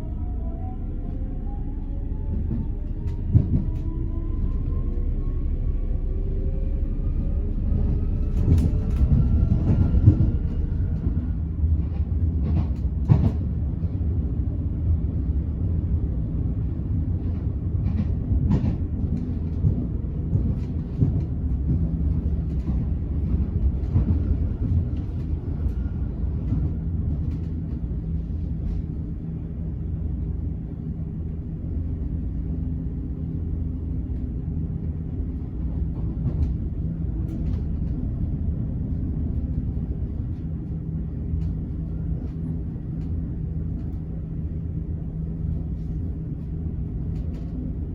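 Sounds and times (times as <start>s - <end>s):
train rumble on rails: 0.0s - 47.9s.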